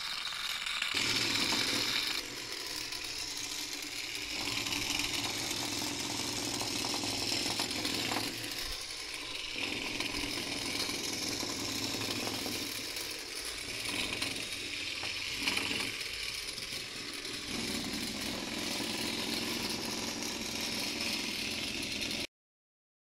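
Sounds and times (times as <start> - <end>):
electric motor mechanical buzz: 0.0 - 22.3.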